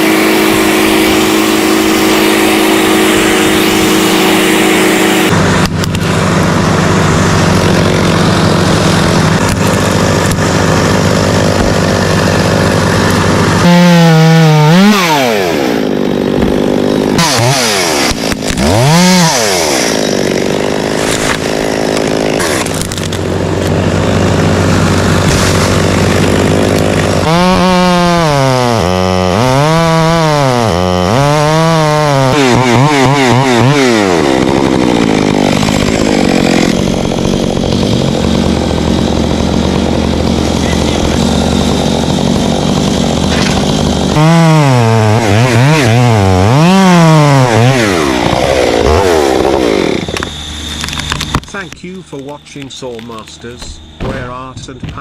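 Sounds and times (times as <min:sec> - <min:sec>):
chainsaws running and revving: 0:00.0 - 0:55.0.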